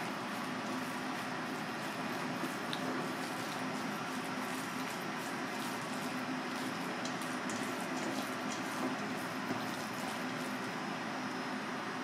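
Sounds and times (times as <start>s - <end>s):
spatula stirring wet mixture: 0.0s - 10.9s
steady background hum: 0.0s - 12.0s.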